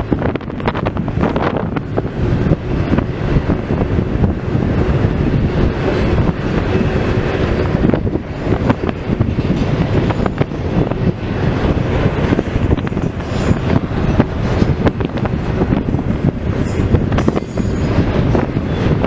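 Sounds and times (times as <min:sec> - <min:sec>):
freight train cars rolling: 0:00.0 - 0:19.0
wind noise on microphone: 0:00.0 - 0:19.0
wheels clicking over rail joints: 0:00.2 - 0:19.0.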